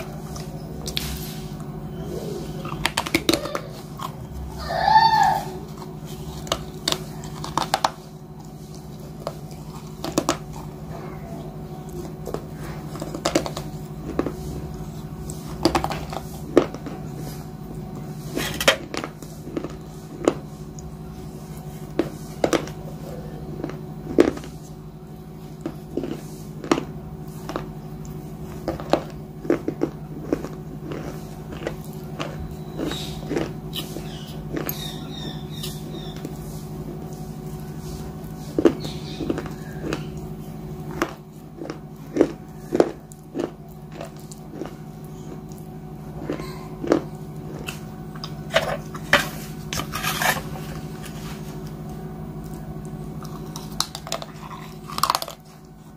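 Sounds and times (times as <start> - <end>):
steady low hum: 0.0 - 55.9
ice crunching and chewing: 2.4 - 11.0, 11.8 - 24.8, 25.4 - 55.9.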